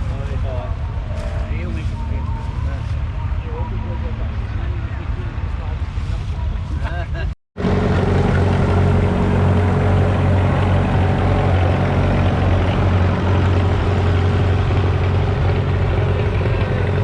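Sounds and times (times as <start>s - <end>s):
diesel engine droning: 0.0s - 7.0s, 7.6s - 17.0s.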